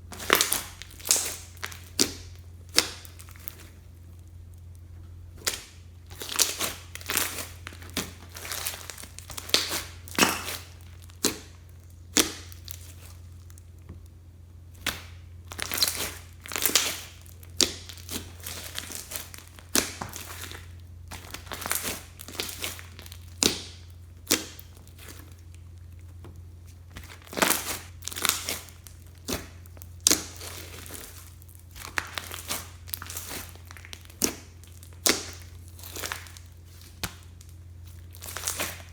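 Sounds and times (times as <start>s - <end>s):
faint low hum: 0.0s - 38.9s
hands kneading sticky slime: 0.0s - 38.9s.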